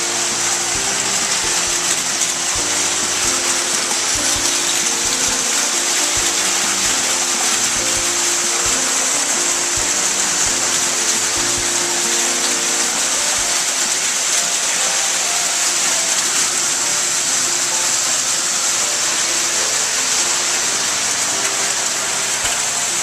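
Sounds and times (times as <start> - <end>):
faint background music: 0.0 - 23.0
steady loud hiss: 0.0 - 23.0.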